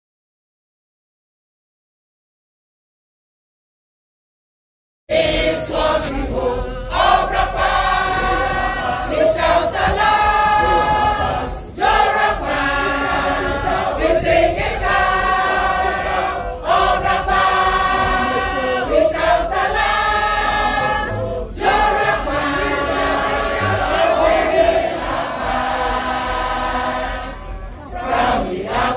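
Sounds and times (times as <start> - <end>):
group singing together: 5.1 - 28.9.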